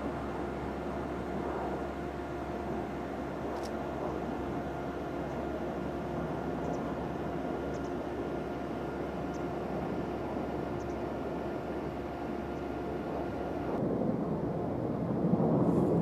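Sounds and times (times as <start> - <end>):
jet engine running: 0.0 - 16.0.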